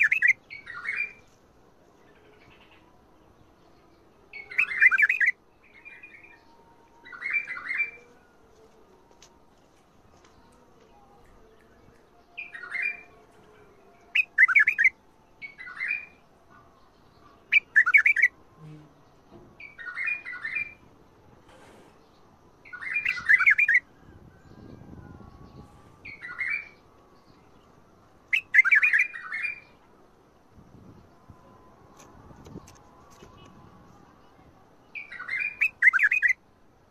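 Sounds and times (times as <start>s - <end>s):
bird singing warbled phrases: 0.0s - 1.4s, 2.0s - 8.1s, 10.2s - 20.8s, 22.1s - 29.8s, 30.8s - 36.4s.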